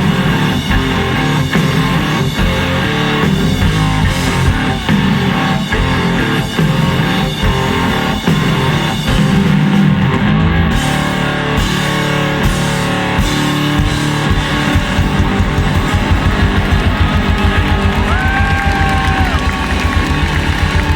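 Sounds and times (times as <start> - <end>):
electric guitar: 0.0 - 20.9
fast driving drums: 0.0 - 20.9.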